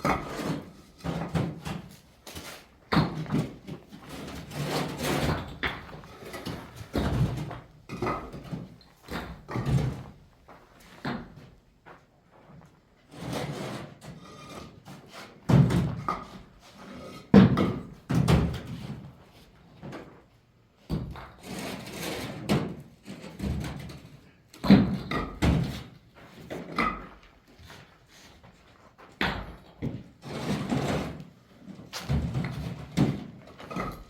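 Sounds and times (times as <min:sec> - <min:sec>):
masonry knocks and scraping: 0:00.0 - 0:34.0.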